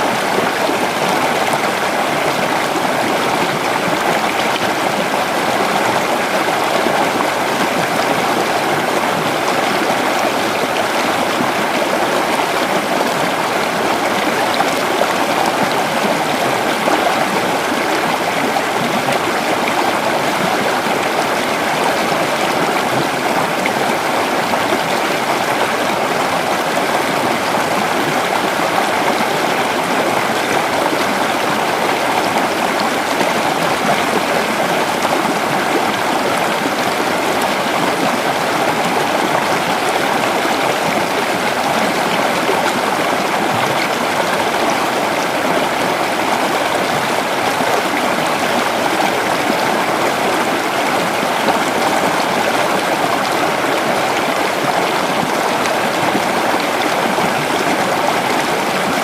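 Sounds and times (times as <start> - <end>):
creek water running over rocks: 0.0 - 59.0.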